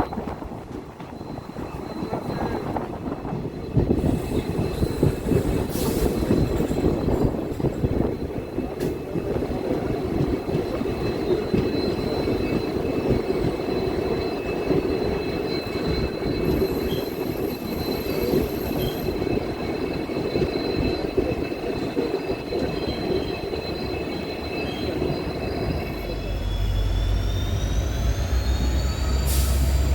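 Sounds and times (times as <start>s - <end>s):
train wheels rumbling on rails: 0.0s - 29.9s.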